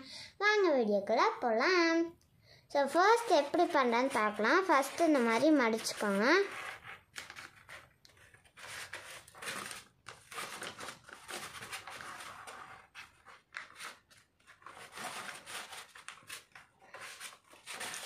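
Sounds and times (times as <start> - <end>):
paper rustling and scraping: 3.0 - 18.0.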